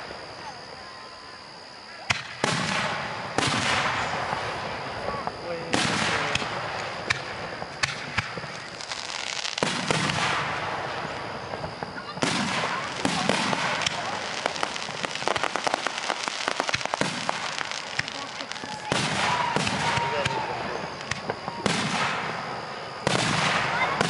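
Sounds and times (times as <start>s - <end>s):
fireworks crackling: 0.0s - 24.0s
fireworks bangs: 1.9s - 24.0s.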